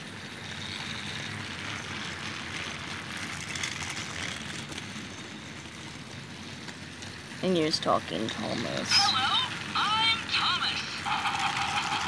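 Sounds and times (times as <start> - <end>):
toy train motor whirring: 0.0 - 12.0
wheels rattling on plastic track: 0.0 - 12.0.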